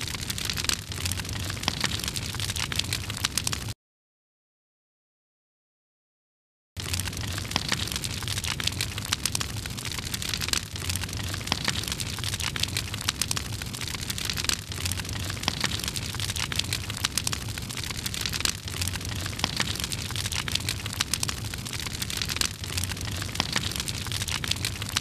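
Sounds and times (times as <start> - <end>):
fire crackling and popping: 0.0 - 3.8, 6.8 - 25.0.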